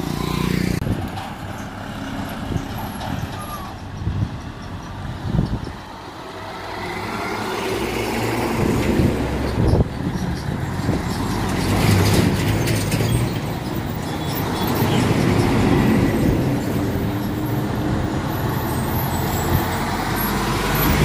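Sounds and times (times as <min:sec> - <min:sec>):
diesel trucks driving past: 0:00.0 - 0:21.0.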